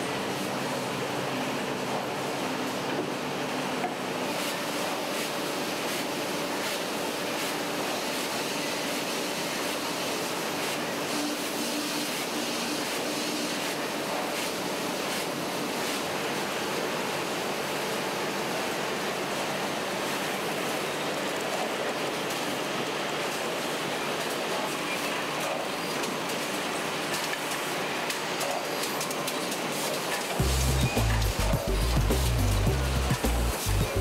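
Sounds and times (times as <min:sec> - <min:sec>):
conveyors and wrapping machinery running: 0:00.0 - 0:34.0.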